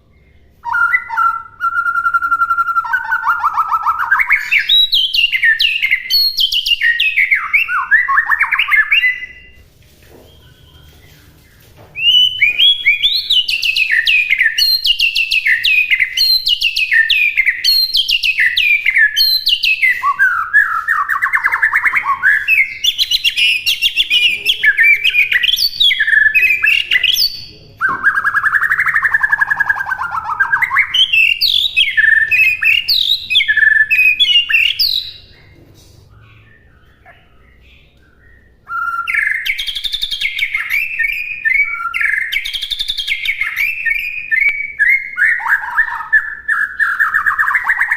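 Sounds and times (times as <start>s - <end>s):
songbird whistling and chattering: 0.4s - 9.6s, 12.0s - 47.9s.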